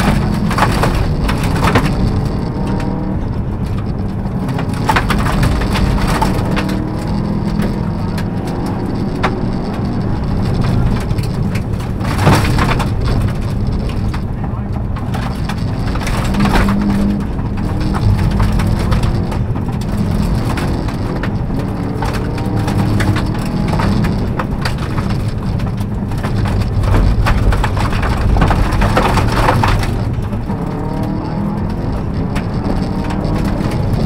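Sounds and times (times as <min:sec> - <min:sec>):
gravel crunching under tyres: 0:00.0 - 0:34.0
rally car engine running hard: 0:00.0 - 0:34.0
stones rattling against underbody: 0:00.0 - 0:34.0.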